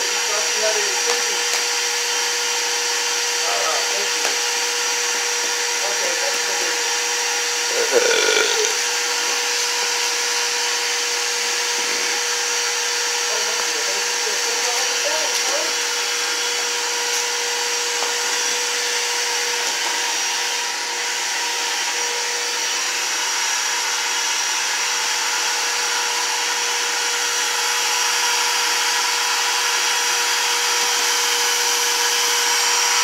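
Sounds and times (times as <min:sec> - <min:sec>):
shop vacuum running: 0:00.0 - 0:33.0.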